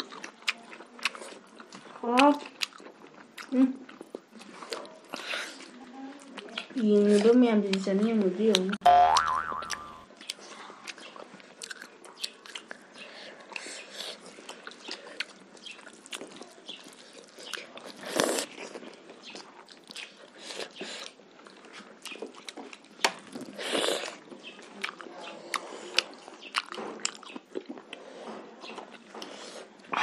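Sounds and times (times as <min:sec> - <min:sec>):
mouth chewing with wet clicks: 0:00.0 - 0:30.0.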